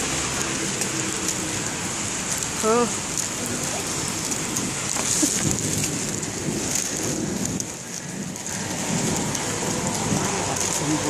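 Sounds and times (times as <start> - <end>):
rain falling on wet street: 0.0 - 11.0.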